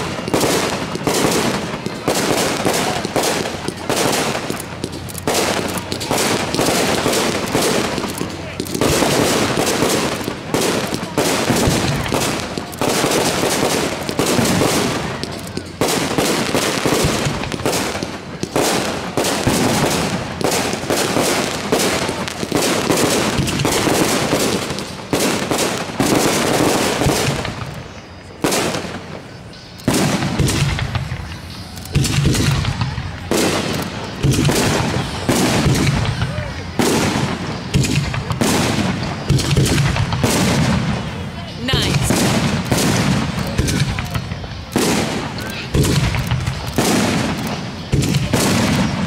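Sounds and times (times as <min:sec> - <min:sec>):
firework shells bursting: 0:00.0 - 0:49.0
rapid firework crackling: 0:00.0 - 0:49.0.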